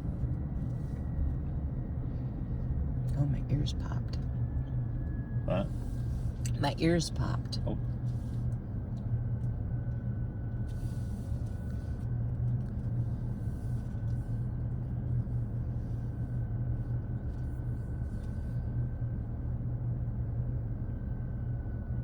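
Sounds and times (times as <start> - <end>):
car engine and tyres rumbling: 0.0 - 20.7.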